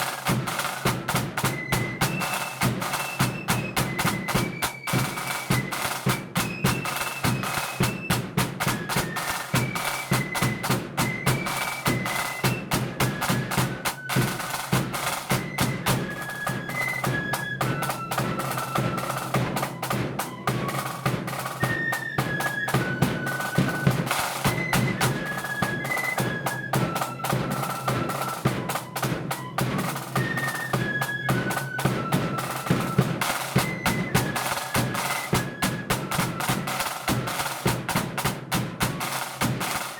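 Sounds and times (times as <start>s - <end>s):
high flute melody: 0.0s - 38.0s, 39.1s - 39.9s
snare drum rolls: 0.0s - 39.9s.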